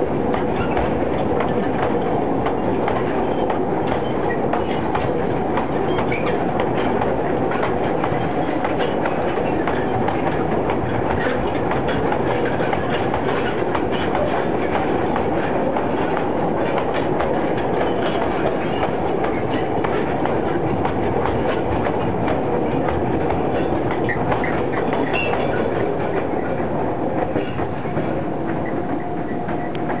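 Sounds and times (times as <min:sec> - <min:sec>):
train wheels clanking over rail joints: 0:00.2 - 0:30.0.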